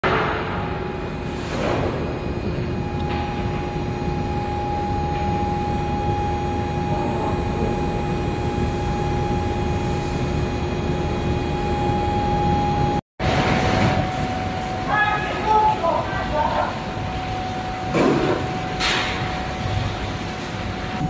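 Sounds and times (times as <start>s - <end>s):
furnace rushing machine noise: 0.0s - 21.0s
high-pitched whine: 0.1s - 21.0s.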